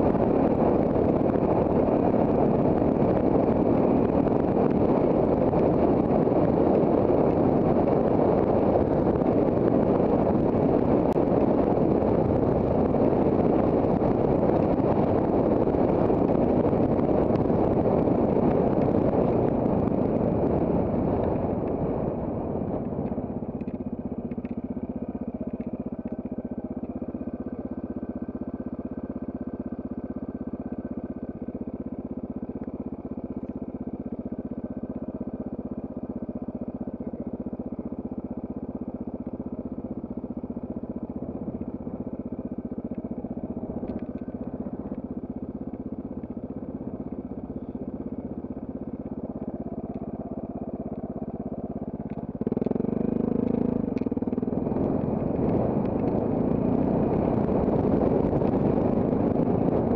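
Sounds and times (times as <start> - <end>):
motorcycle engine running steadily: 0.0 - 59.9.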